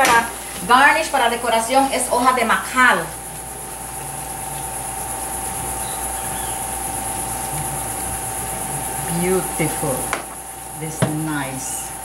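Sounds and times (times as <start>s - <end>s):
constant mid-pitched tone: 0.0s - 12.0s
insects buzzing: 0.0s - 12.0s
low hum: 0.6s - 12.0s.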